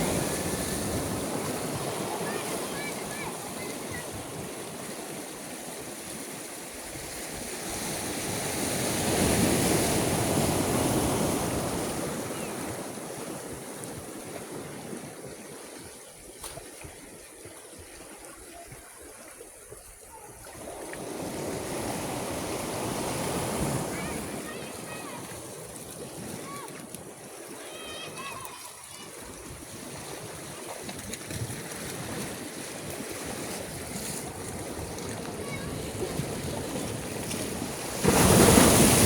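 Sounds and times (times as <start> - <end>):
sea waves washing ashore: 0.0 - 39.0.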